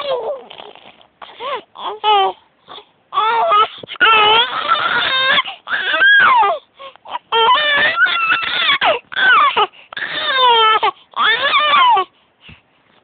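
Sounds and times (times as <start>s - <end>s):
baby crying: 0.0s - 12.1s.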